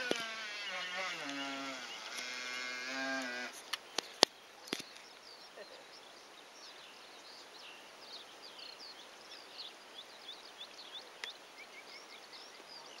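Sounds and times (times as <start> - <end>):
outdoor hiss: 0.0 - 13.0
small birds twittering: 0.0 - 13.0.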